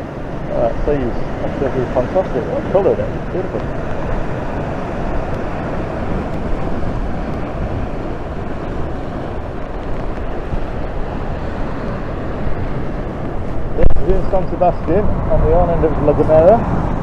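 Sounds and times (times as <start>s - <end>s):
heavy rain hissing: 0.0s - 17.0s
wind buffeting microphone: 0.0s - 17.0s.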